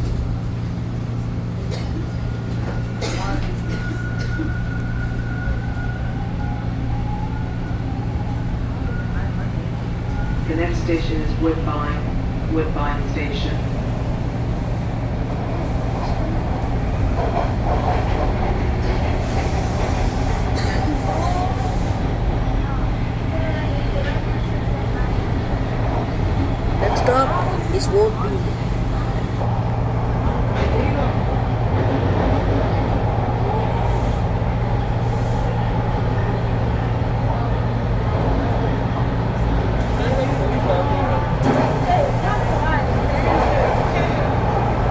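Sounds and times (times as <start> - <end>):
subway train wheels rumbling: 0.0 - 44.9.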